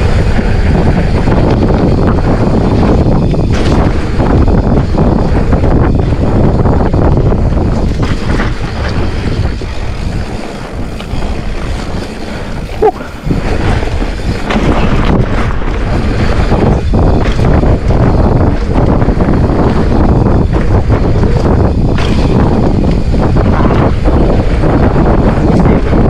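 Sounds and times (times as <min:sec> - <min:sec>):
bike rattling over trail: 0:00.0 - 0:26.0
wind on microphone: 0:00.0 - 0:26.0.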